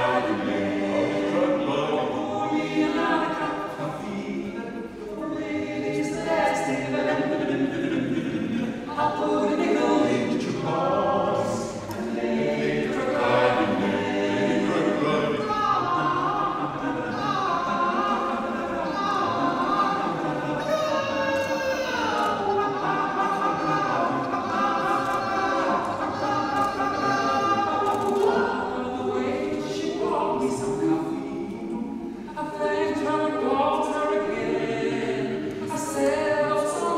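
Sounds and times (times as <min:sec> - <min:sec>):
men singing a cappella harmony: 0:00.0 - 0:36.9.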